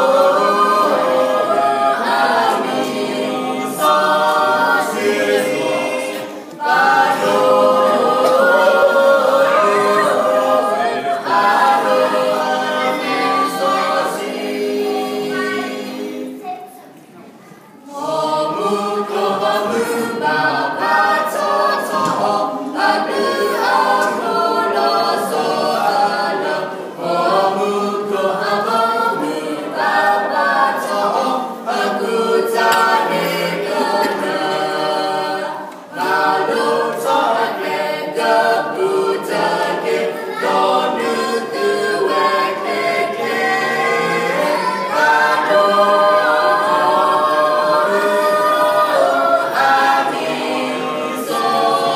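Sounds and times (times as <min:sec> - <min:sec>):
vocal quartet singing unaccompanied: 0:00.0 - 0:16.4, 0:17.8 - 0:51.9.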